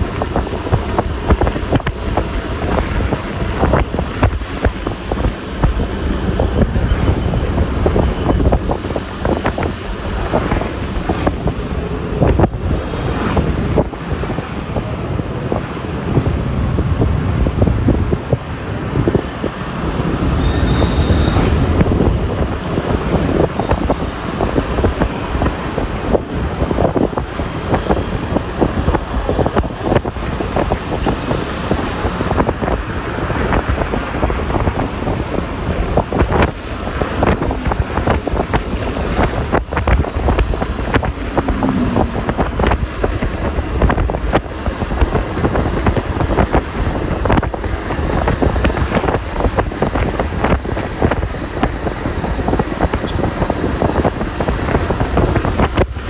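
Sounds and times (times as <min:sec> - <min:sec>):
road and traffic noise: 0:00.0 - 0:56.0
wind buffeting microphone: 0:00.0 - 0:56.0.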